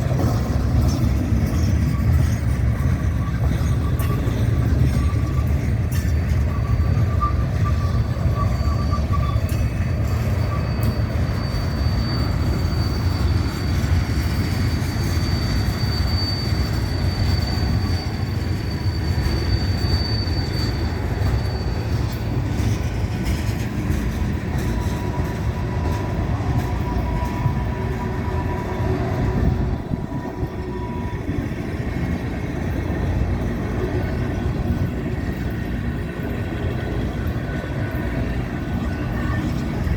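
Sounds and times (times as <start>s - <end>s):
freight train cars rumbling past: 0.0s - 39.9s
high train wheel squeals: 0.0s - 39.9s.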